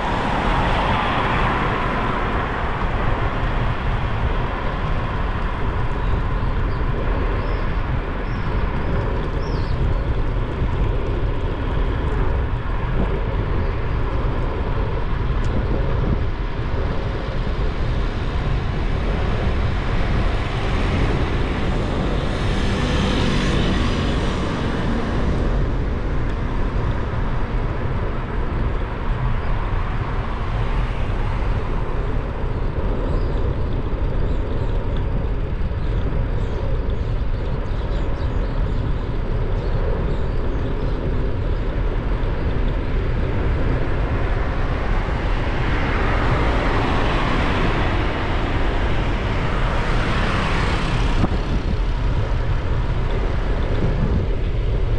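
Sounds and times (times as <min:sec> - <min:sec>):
low vehicle rumble: 0:00.0 - 0:54.9
wind and road noise: 0:00.0 - 0:54.9.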